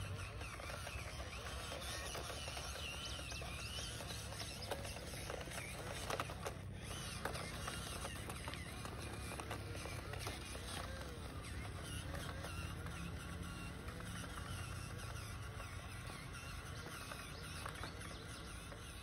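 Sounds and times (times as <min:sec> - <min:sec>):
small birds chirping: 0:00.0 - 0:19.0
tyres crackling over dirt and twigs: 0:00.0 - 0:19.0.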